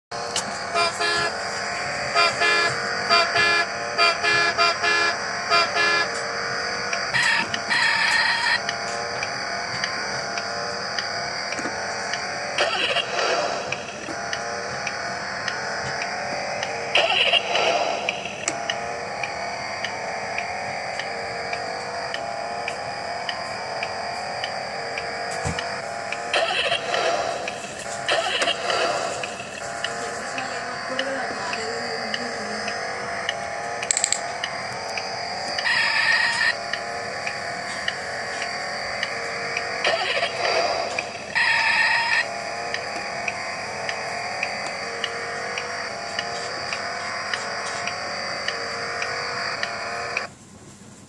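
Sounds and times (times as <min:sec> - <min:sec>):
steady electronic tone: 0:00.1 - 0:50.3
steady ticking: 0:00.2 - 0:50.3
toy electronic horn double toots: 0:00.2 - 0:50.3.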